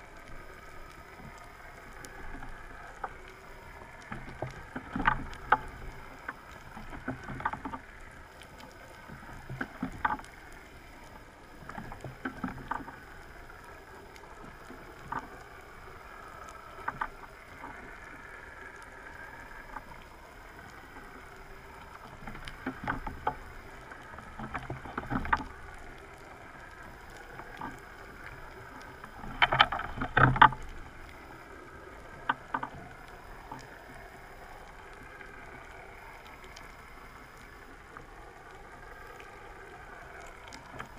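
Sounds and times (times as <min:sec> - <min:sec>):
murky underwater wash: 0:00.0 - 0:40.9
underwater clicks and crackling: 0:00.0 - 0:40.9.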